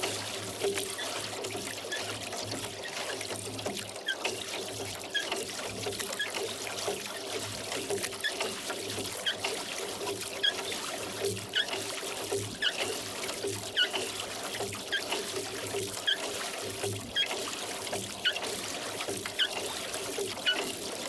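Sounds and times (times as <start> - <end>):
oars pulling through water: 0.0 - 21.0
small splashes: 0.0 - 21.0
water dripping off oars: 0.0 - 21.0.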